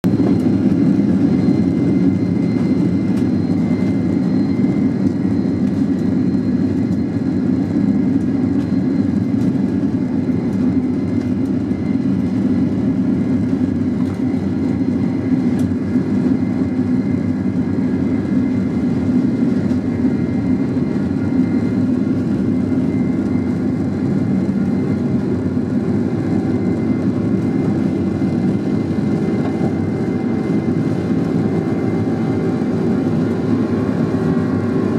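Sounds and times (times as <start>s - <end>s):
jet engines rumbling: 0.0s - 34.9s.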